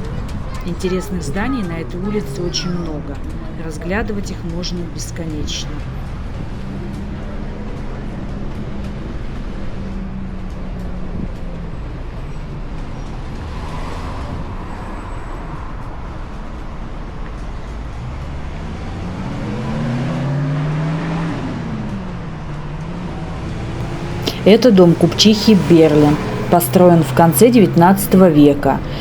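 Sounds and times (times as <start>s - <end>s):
hum of passing cars: 0.0s - 29.0s
vehicle engine passing by: 0.0s - 29.0s.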